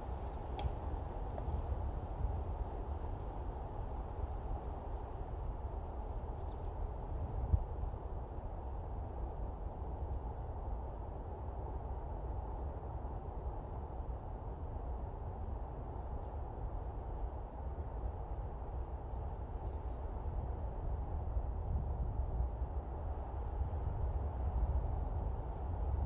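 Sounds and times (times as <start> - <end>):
wind blowing through pines: 0.0 - 26.0.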